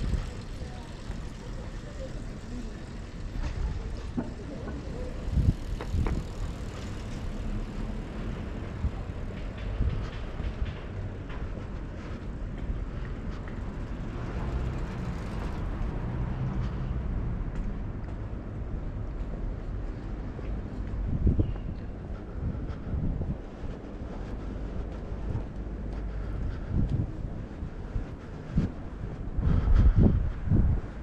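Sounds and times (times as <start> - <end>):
low engine hum: 0.0 - 31.0
road traffic: 0.0 - 31.0.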